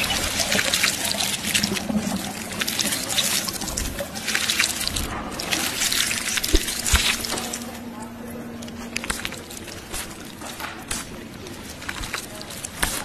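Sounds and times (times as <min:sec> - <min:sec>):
water trickling with crackles: 0:00.0 - 0:13.0.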